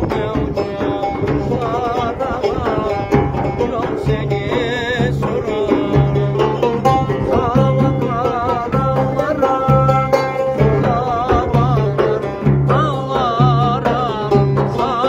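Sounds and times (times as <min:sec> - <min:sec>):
banjo strummed fast: 0:00.0 - 0:15.0
large drum beating: 0:00.0 - 0:15.0
person singing ornamented notes: 0:00.0 - 0:15.0.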